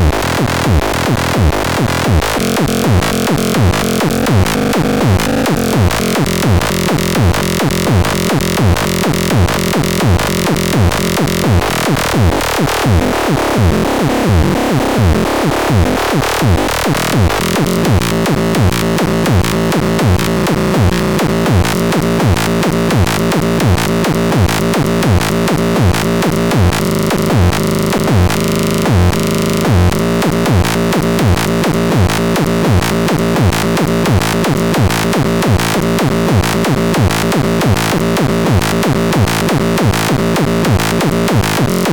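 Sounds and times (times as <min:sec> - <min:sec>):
electronic dance music: 0:00.0 - 0:41.9.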